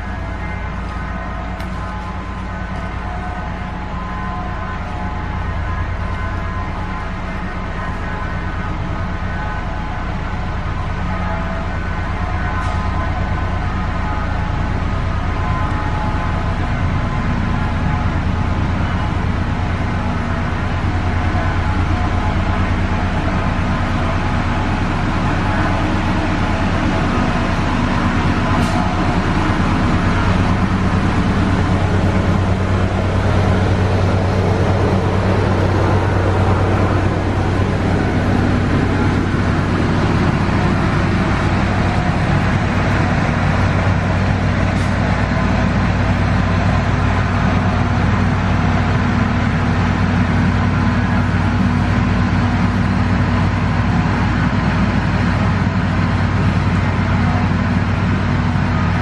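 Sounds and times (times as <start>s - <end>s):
loud mechanical drone: 0.0s - 59.0s.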